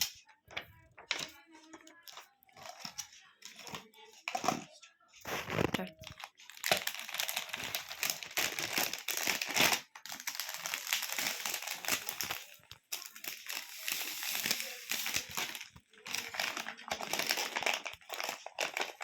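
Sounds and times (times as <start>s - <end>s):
crinkling and crackling: 0.0s - 19.0s.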